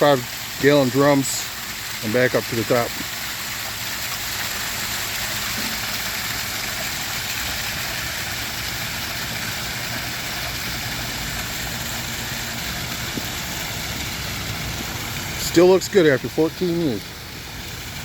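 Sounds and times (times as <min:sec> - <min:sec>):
water spilling over rocks: 0:00.0 - 0:18.0.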